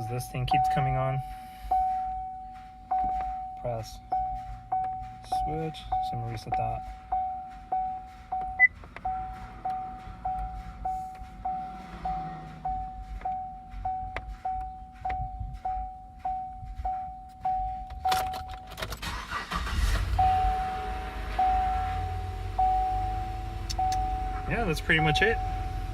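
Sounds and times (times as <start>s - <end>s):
dashboard warning chime: 0.0s - 25.9s
engine cranking: 0.0s - 25.9s.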